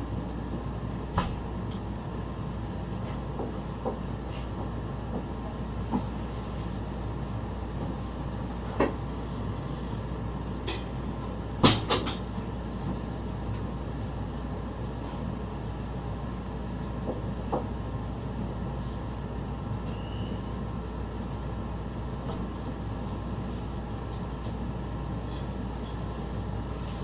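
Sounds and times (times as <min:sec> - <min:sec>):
train cab running noise: 0:00.0 - 0:27.0.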